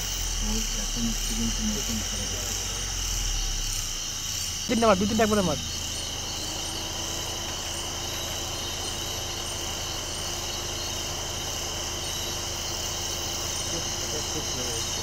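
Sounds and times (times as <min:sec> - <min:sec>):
crickets and insects chirping: 0:00.0 - 0:15.0
low engine hum: 0:00.0 - 0:15.0.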